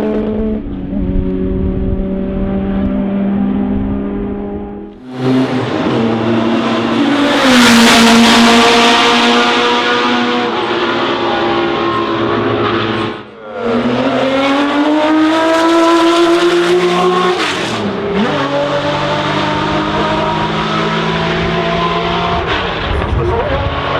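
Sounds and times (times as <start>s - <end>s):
racing car engine running hard: 0.0s - 23.9s.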